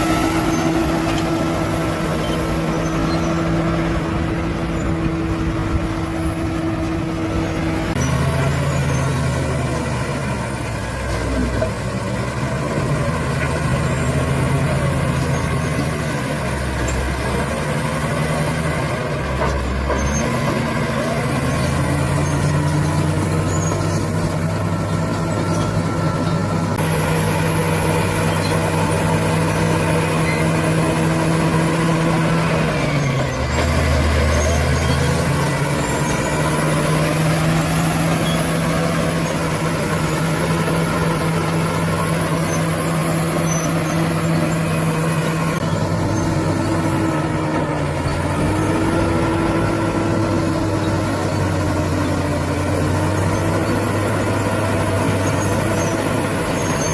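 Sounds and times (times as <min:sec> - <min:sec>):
bulldozer diesel engine working: 0:00.0 - 0:56.9.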